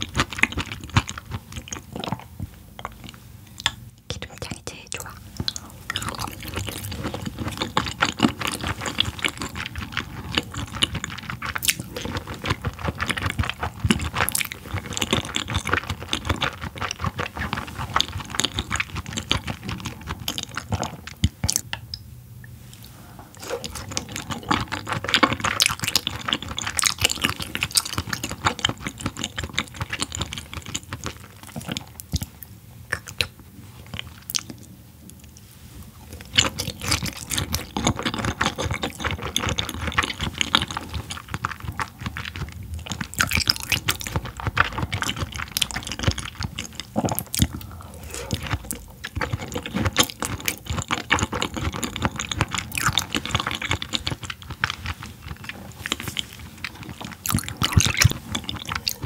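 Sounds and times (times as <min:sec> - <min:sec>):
close chewing with wet clicks: 0:00.0 - 0:59.0.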